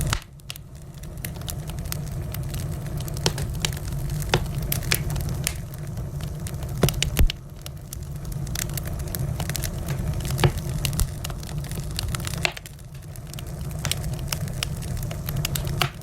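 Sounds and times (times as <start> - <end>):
low rumble of fire: 0.0 - 16.0
wood fire crackles and pops: 0.0 - 16.0.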